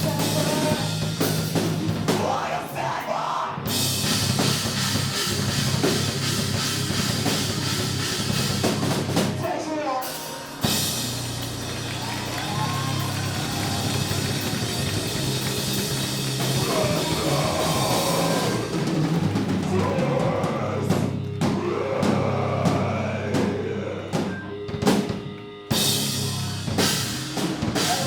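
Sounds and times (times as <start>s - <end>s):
heavy rock band playing: 0.0s - 28.0s.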